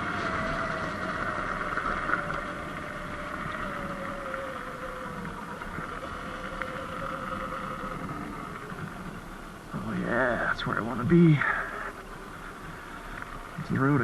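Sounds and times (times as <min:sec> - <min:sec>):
electric motor whine: 0:00.0 - 0:14.0
wind noise: 0:00.0 - 0:14.0.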